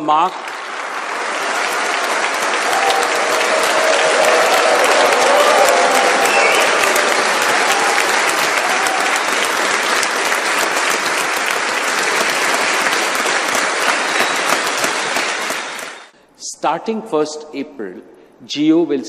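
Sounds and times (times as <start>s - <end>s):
audience applauding: 0.0s - 16.1s.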